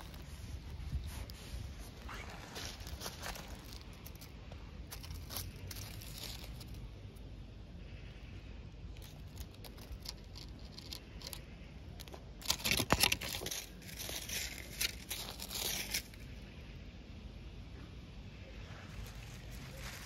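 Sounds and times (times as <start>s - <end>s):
cat crunching food among dry leaves: 0.0s - 7.3s, 8.8s - 16.5s, 18.8s - 20.0s.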